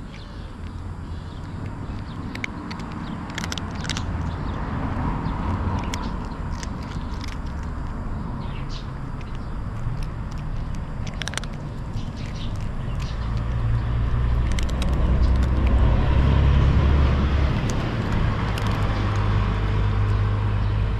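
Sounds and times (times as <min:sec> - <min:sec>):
cat crunching dry kibble: 0:00.0 - 0:20.9
vehicle engine rumbling: 0:00.0 - 0:20.9.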